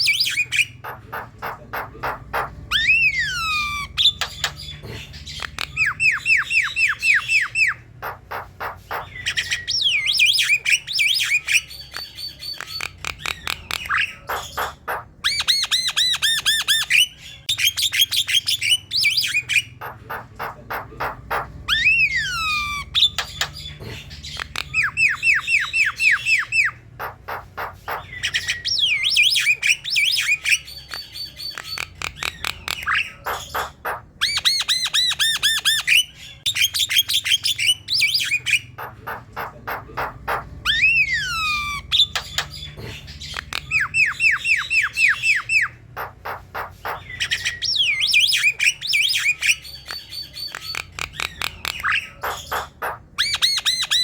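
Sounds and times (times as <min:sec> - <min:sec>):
myna bird singing: 0:00.0 - 0:54.0.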